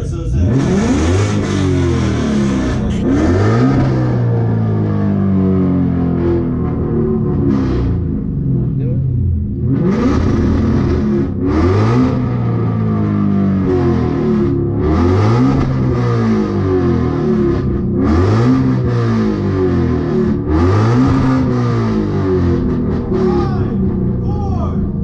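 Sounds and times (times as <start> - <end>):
car engine revving hard: 0.3 - 25.0.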